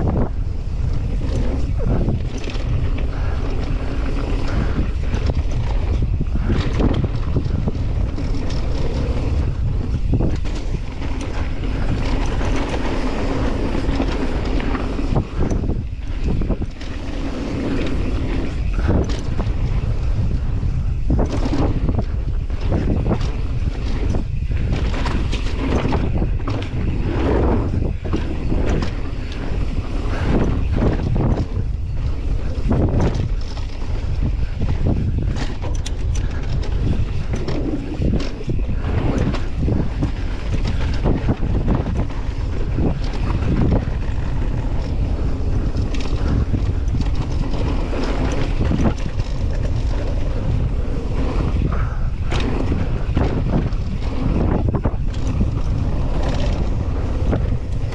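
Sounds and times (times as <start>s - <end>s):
bike knocking and rattling: 0.0s - 57.9s
tyres rolling over rough dirt: 0.0s - 57.9s
wind buffeting microphone: 0.0s - 57.9s.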